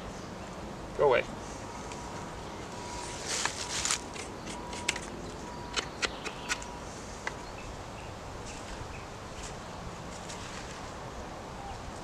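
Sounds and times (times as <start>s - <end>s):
rustling of dry leaves: 0.1s - 5.6s, 6.2s - 12.0s.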